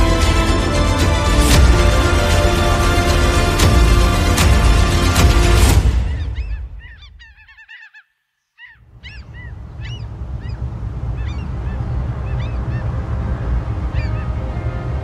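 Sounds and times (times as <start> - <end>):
low steady rumble: 0.0 - 6.6, 8.9 - 15.0
birds honking: 0.0 - 15.0.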